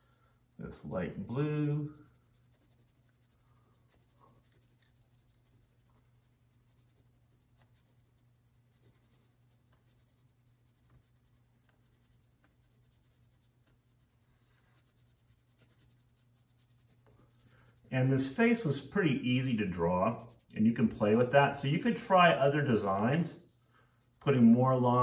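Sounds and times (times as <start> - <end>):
low room hum: 0.0 - 25.0
crayon scratching on paper: 0.4 - 22.9.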